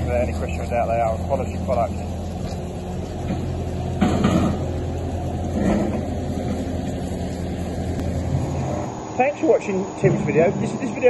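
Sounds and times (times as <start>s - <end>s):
engine clatter: 0.0s - 9.0s
diesel engine idling: 0.0s - 11.0s.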